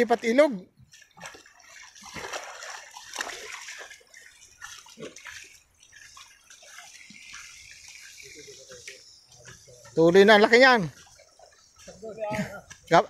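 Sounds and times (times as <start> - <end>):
shallow water running and splashing: 0.0 - 13.0.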